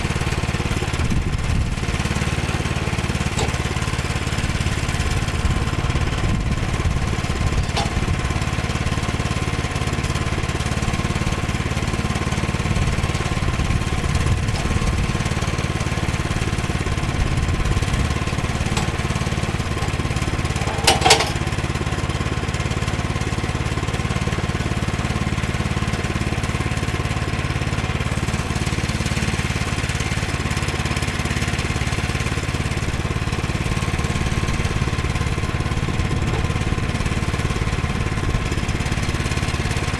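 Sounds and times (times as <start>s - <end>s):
sawmill engine with whine: 0.0s - 39.9s.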